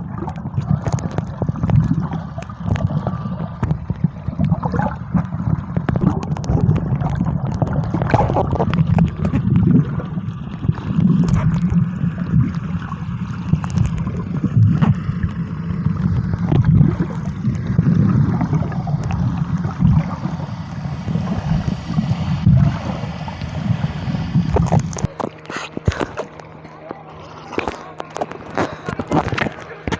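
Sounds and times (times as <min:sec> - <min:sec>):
sea water rushing: 0:00.0 - 0:29.9
wind buffeting microphone: 0:00.0 - 0:29.9.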